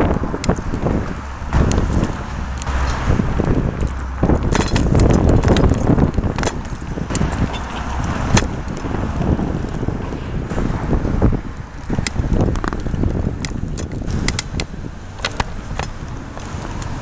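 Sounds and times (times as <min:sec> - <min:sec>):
bicycle rattling: 0:00.0 - 0:17.0
road noise: 0:00.0 - 0:17.0
street traffic: 0:00.0 - 0:17.0.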